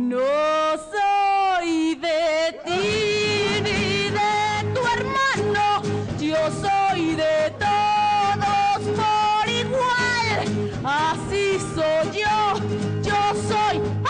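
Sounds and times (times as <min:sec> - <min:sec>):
woman singing show tune: 0:00.0 - 0:14.0.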